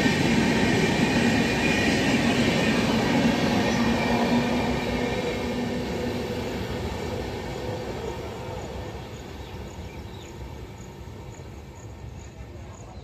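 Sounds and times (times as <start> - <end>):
train wheels rumbling: 0.0 - 12.6
train hum: 0.0 - 13.0.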